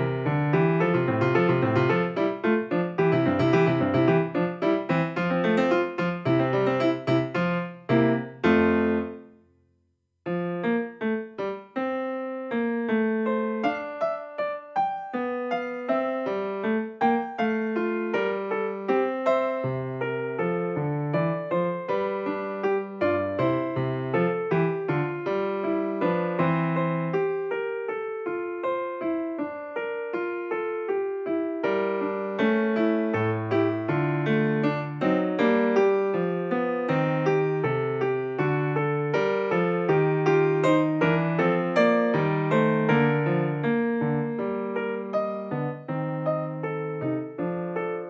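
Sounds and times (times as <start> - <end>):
gentle piano melody: 0.0 - 9.5, 10.3 - 48.0.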